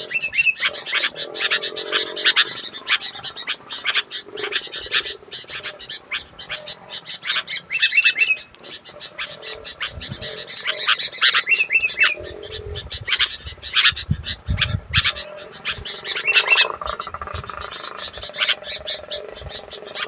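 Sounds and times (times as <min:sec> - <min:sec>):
birds chattering and whistling: 0:00.0 - 0:20.0.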